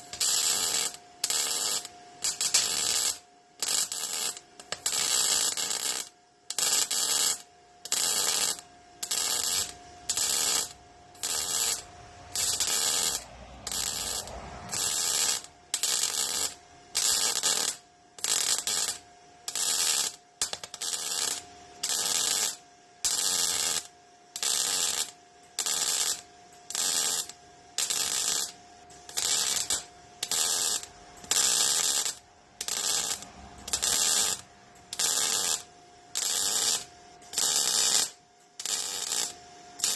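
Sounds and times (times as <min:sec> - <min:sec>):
welder crackling: 0:00.0 - 0:39.9.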